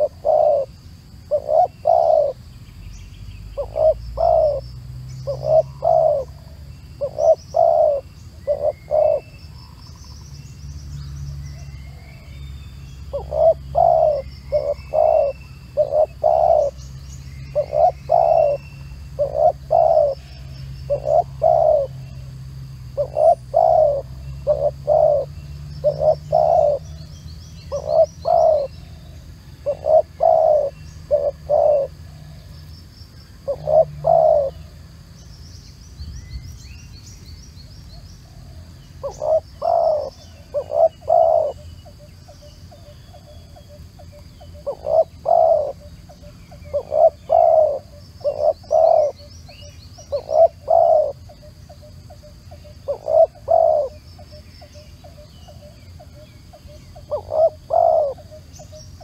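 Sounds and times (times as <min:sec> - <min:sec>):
dove cooing: 0:00.0 - 0:02.5, 0:03.6 - 0:04.6, 0:05.2 - 0:10.2, 0:13.1 - 0:27.0, 0:27.6 - 0:32.6, 0:33.4 - 0:34.8, 0:38.2 - 0:59.0
small birds chirping: 0:00.0 - 0:59.0.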